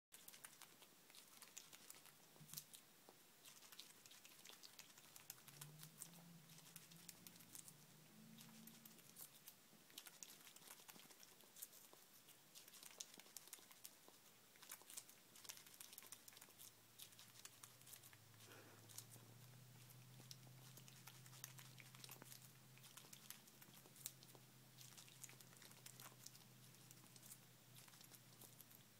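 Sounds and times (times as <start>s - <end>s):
squirrel chewing clicks: 0.2s - 28.9s.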